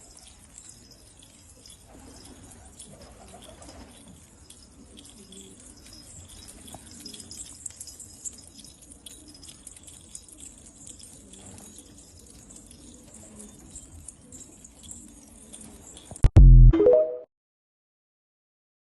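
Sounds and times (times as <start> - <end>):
pigeons cooing: 0.0 - 16.1.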